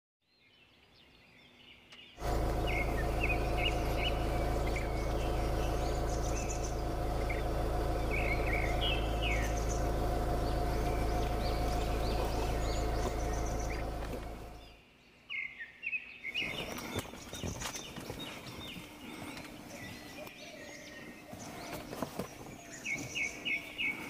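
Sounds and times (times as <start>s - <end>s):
birds chirping: 0.3s - 24.0s.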